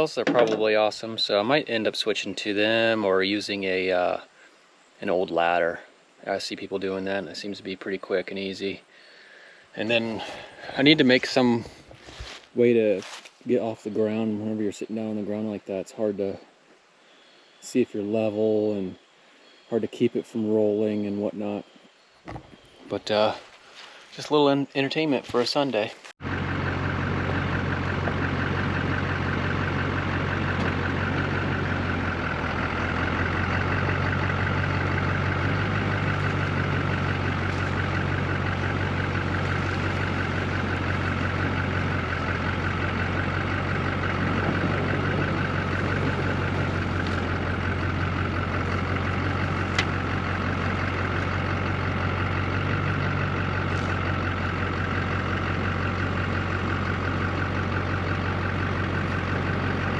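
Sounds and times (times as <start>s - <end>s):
engine running steadily: 0.0s - 16.4s, 25.0s - 59.9s.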